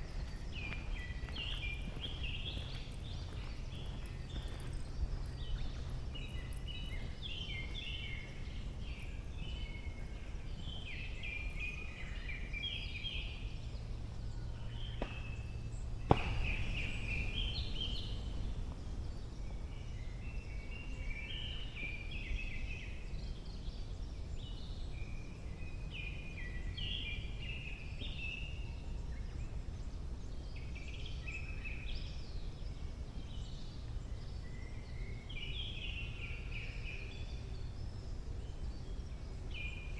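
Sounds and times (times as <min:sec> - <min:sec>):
low background rumble: 0:00.0 - 0:39.9
songbirds singing: 0:00.0 - 0:39.9.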